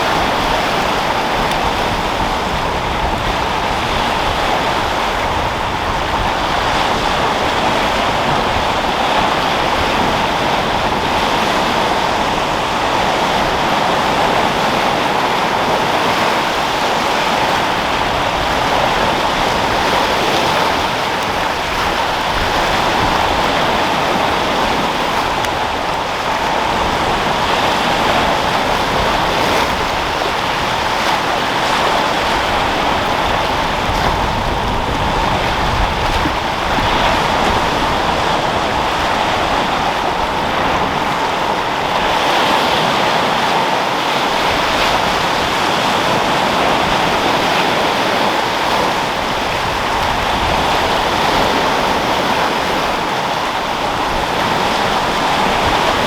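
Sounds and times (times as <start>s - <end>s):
waves breaking: 0.0s - 56.0s
wind: 0.0s - 56.0s.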